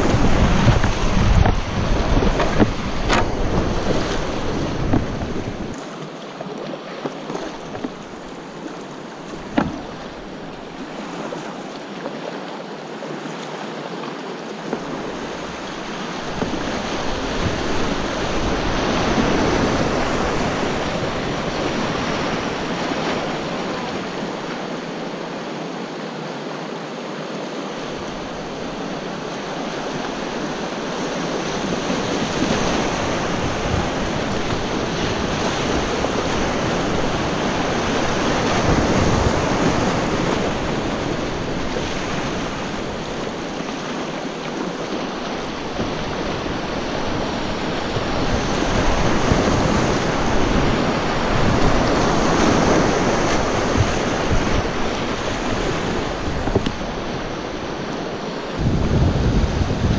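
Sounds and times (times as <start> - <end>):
rapids rushing: 0.0 - 13.0, 13.8 - 26.0, 27.6 - 59.9.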